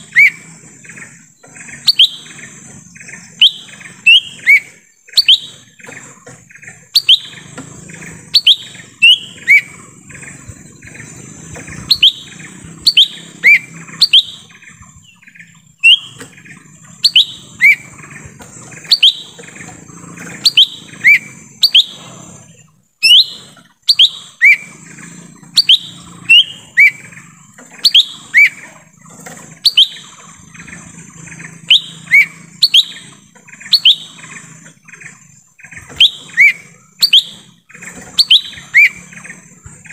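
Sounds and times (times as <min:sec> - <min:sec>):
bird whistled calls: 0:00.0 - 0:28.9, 0:29.5 - 0:39.9.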